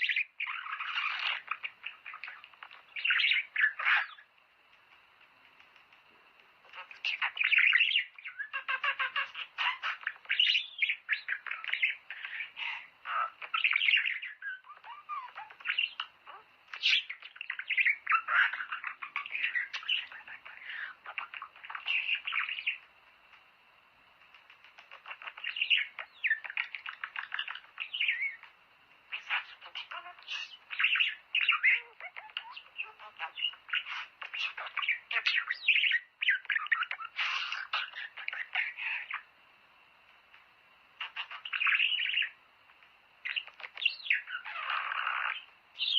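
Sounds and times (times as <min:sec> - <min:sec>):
budgerigars chattering and warbling: 0:00.0 - 0:04.3, 0:06.6 - 0:22.8, 0:24.4 - 0:28.5, 0:29.1 - 0:39.3, 0:41.0 - 0:42.4, 0:43.2 - 0:45.9.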